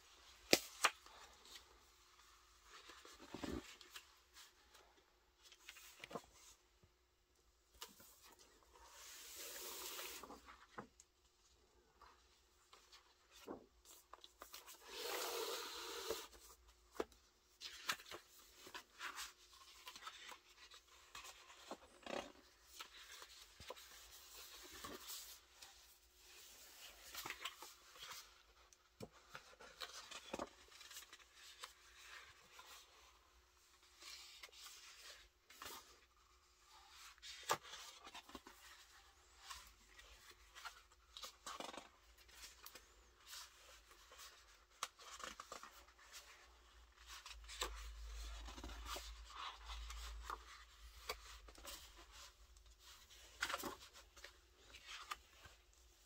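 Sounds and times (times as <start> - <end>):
book pages turning: 0.0 - 6.6, 7.7 - 11.0, 12.0 - 56.0.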